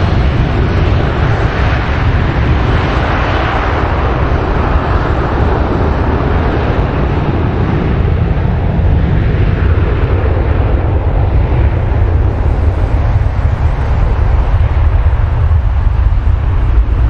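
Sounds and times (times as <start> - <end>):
deep rumble: 0.0 - 17.0
jet engines roaring: 0.0 - 17.0.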